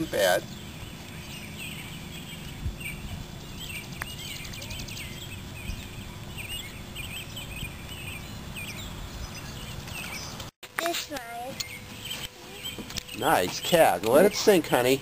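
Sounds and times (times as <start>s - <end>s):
birds chirping: 0.0s - 15.0s
constant low rumble: 0.0s - 15.0s.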